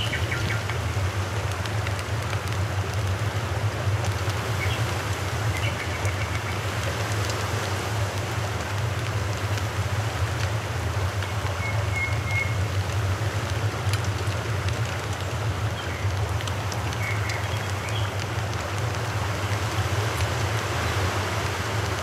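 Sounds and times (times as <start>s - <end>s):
constant low rumble: 0.0s - 22.0s
fish deep-frying in oil: 0.0s - 22.0s.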